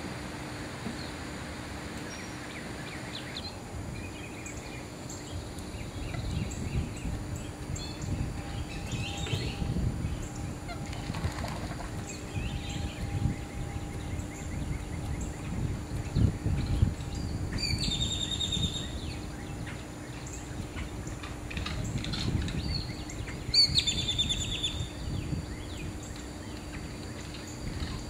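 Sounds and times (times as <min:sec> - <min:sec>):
birds chattering calls: 0:02.0 - 0:28.0
birds chirping: 0:02.0 - 0:28.0.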